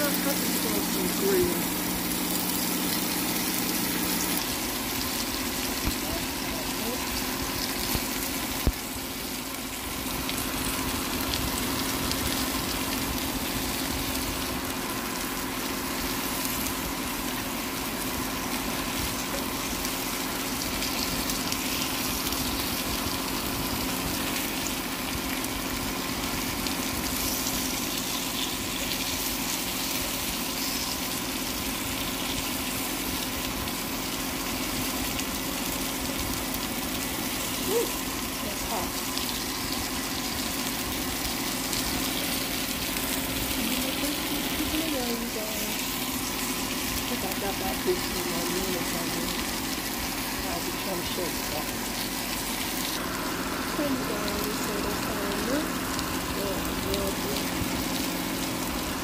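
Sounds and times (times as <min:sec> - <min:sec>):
appliance fan whirring: 0:00.0 - 0:59.0.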